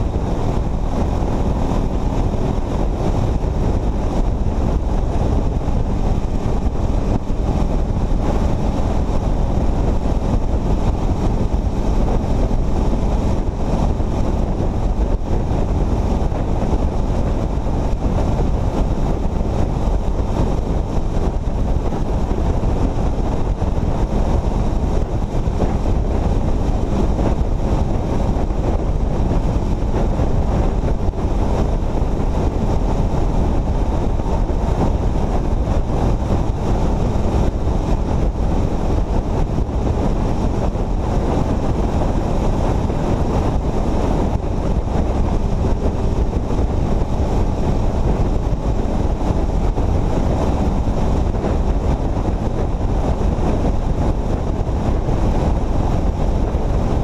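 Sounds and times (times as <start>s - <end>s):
road noise: 0.0s - 57.0s
wind rushing on microphone: 0.0s - 57.0s.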